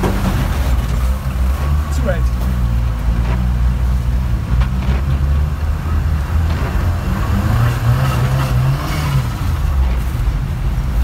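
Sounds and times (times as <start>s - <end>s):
car engine drone from inside: 0.0s - 11.0s.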